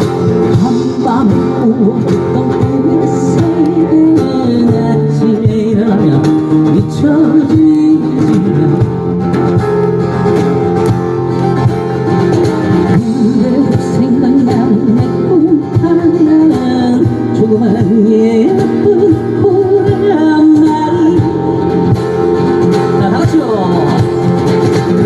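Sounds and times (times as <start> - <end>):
person singing: 0.0 - 9.5, 12.2 - 25.0
guitar: 0.0 - 25.0.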